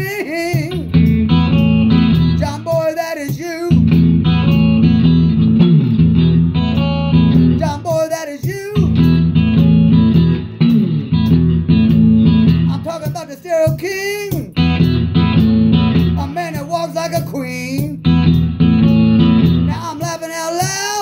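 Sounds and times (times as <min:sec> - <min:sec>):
electric guitar strummed chords: 0:00.0 - 0:21.0.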